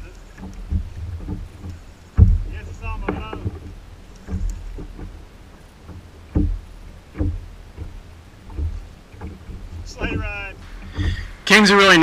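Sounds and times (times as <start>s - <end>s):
low steady rumble: 0.0s - 12.0s
water slapping against kayak hull: 0.0s - 12.0s.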